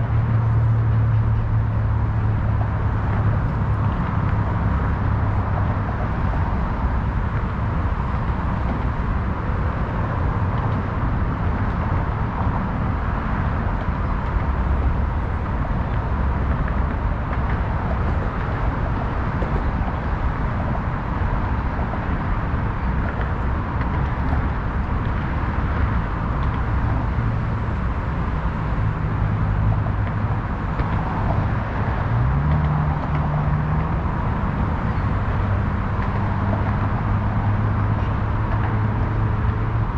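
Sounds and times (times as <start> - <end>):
passing motor traffic roar: 0.0 - 39.9.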